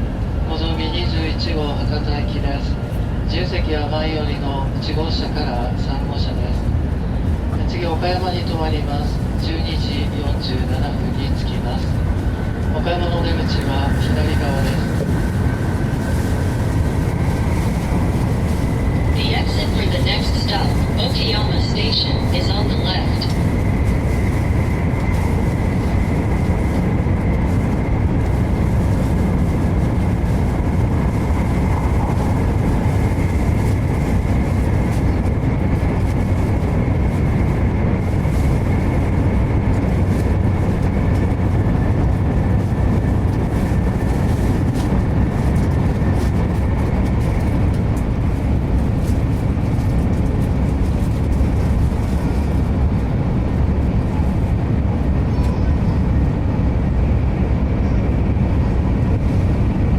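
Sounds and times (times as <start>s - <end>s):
train rumble and air rush: 0.0s - 59.9s.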